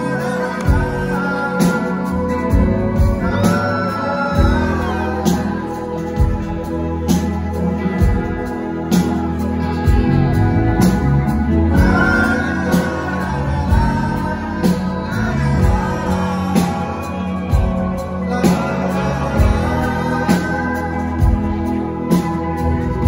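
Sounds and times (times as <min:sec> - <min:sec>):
live rock band playing: 0:00.0 - 0:23.0
man singing lead vocal: 0:00.0 - 0:23.0.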